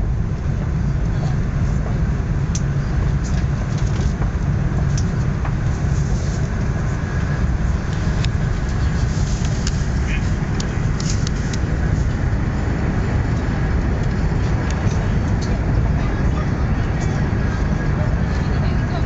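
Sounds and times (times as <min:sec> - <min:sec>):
train rumble inside cabin: 0:00.0 - 0:19.0.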